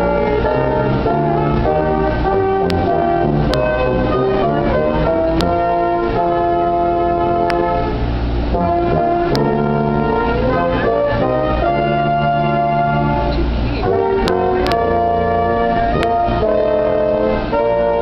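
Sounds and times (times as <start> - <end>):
slow instrumental music: 0.0 - 18.0.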